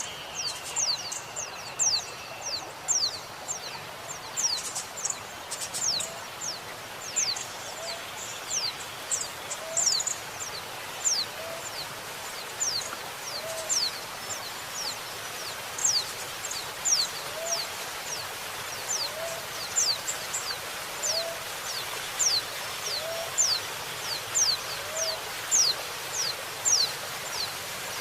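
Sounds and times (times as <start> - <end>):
flowing water hiss: 0.0 - 28.0.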